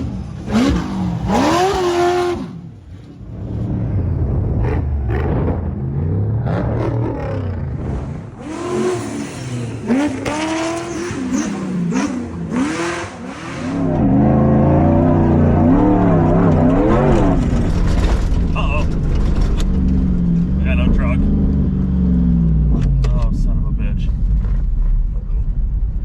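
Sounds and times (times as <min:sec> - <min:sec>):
truck engine revving: 0:00.0 - 0:25.8.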